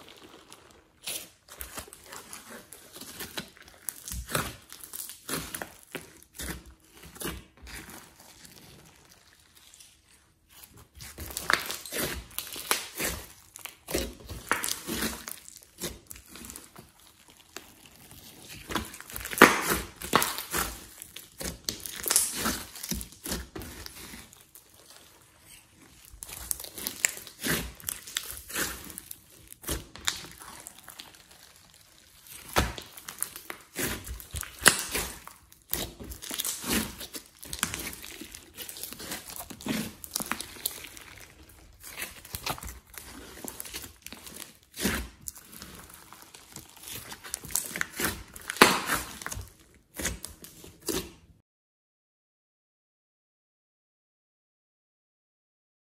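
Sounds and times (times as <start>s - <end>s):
hands squishing sticky slime: 0.0s - 51.4s.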